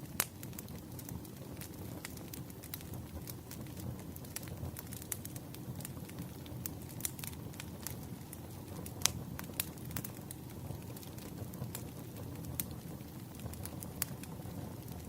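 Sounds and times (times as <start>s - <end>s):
burning wood crackling and popping: 0.0s - 15.0s
campfire flames rustling: 0.0s - 15.0s.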